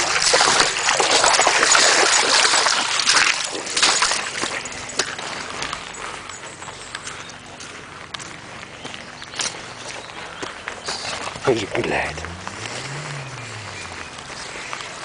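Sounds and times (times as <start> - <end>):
feet wading through water: 0.0 - 15.0.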